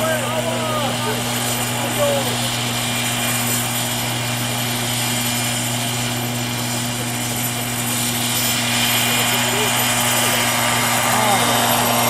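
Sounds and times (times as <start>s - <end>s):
helicopter rotor hum: 0.0s - 12.0s
high turbine whine: 0.0s - 12.0s.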